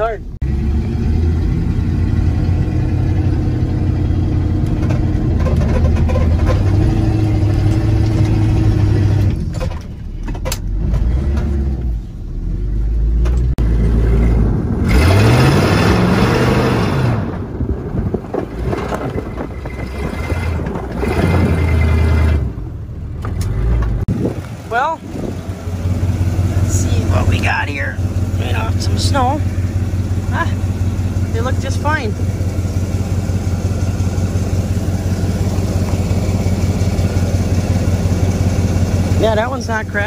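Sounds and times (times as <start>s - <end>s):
truck engine under load: 0.0s - 40.0s.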